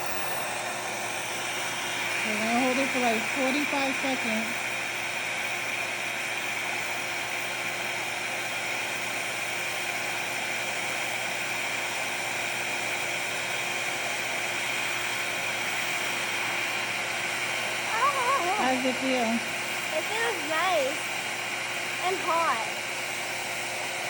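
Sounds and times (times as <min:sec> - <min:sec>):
hair dryer whirring and hissing: 0:00.0 - 0:24.0.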